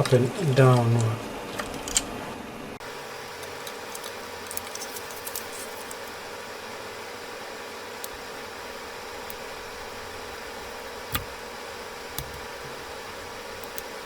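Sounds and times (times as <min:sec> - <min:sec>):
background hiss and hum: 0:00.0 - 0:14.0.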